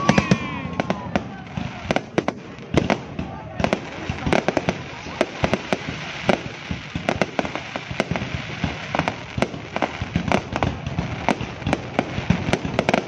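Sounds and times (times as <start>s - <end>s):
fireworks bangs: 0.0s - 13.0s
steady hiss: 1.4s - 13.0s.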